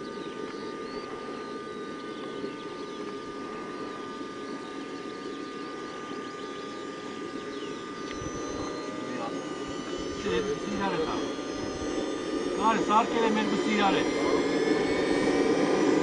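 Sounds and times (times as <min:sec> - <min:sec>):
high whine: 0:00.0 - 0:16.0
mechanical hum: 0:00.0 - 0:16.0.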